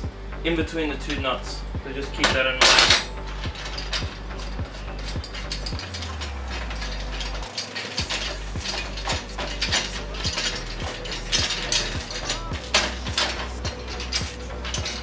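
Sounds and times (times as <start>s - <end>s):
small metal clinks: 2.1s - 15.0s
ratchet clicking: 2.2s - 15.0s.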